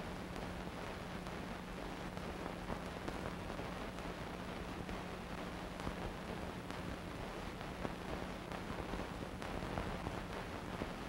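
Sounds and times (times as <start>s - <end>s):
film hiss: 0.0s - 11.0s.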